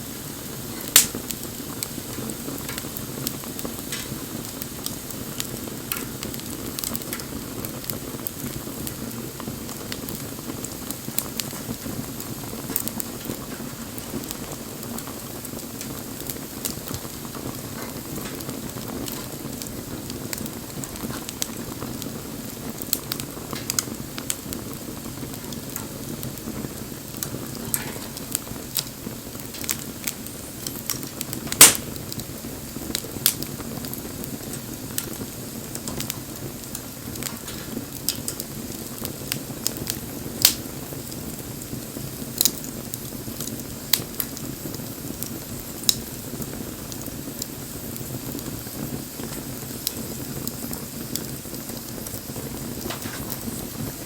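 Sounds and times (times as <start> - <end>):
bonfire flames rushing: 0.0 - 54.0
fire crackles and pops: 0.0 - 54.0.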